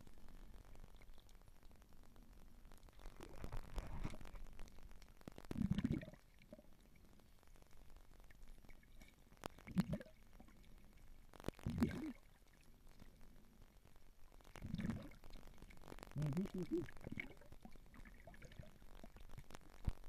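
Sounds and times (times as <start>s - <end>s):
underwater gurgles and sloshes: 0.0s - 20.0s
faint clicks: 0.1s - 20.0s.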